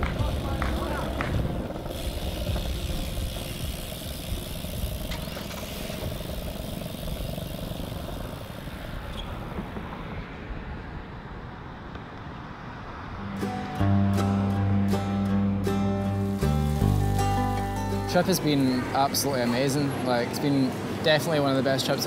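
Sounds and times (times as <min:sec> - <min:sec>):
moving vehicle rumble and hiss: 0:00.0 - 0:13.2, 0:16.0 - 0:22.0.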